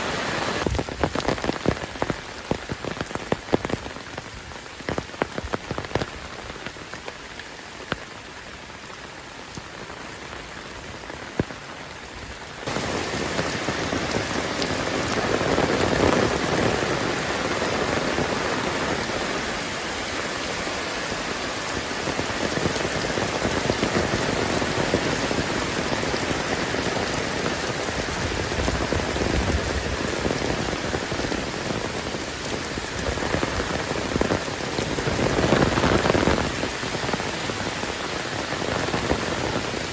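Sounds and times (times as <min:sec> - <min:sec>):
heavy rain falling: 0:00.0 - 0:39.9
raindrops hitting close by: 0:00.0 - 0:39.9.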